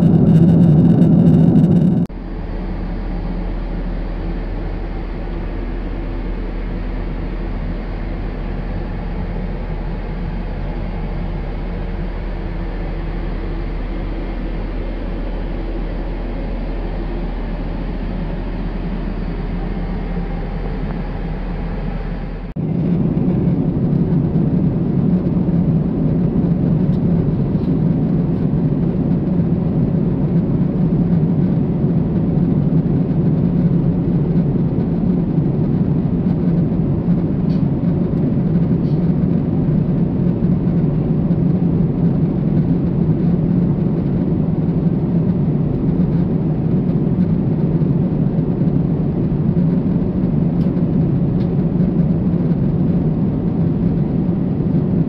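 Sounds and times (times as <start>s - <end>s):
air rushing along fuselage: 0.0s - 55.0s
airliner engine hum: 0.0s - 55.0s.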